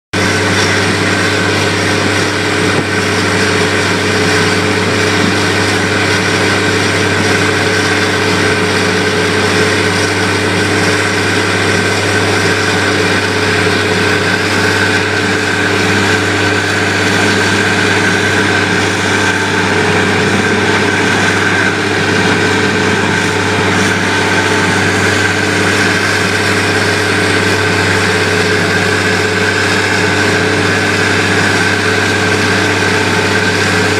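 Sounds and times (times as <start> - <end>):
heavy machinery drone: 0.2 - 33.9.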